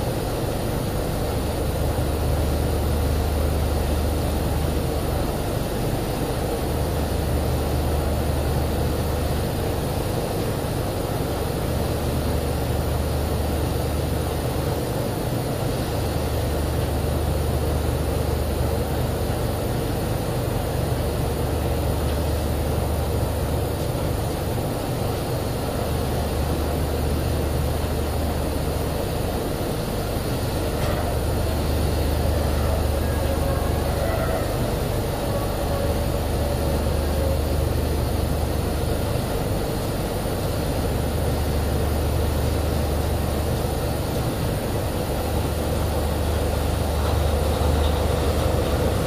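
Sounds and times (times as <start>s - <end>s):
drilling rig machinery drone: 0.0s - 49.0s.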